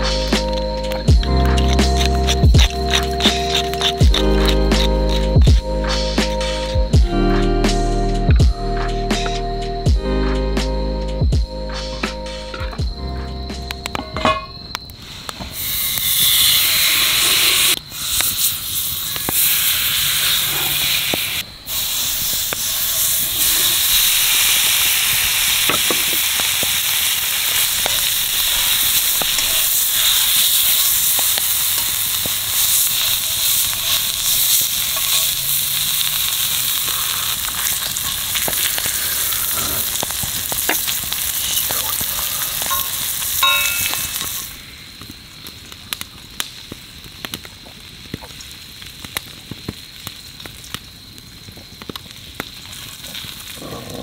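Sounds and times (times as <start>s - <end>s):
steak sizzling in frying pan: 0.0s - 6.0s, 14.2s - 53.6s.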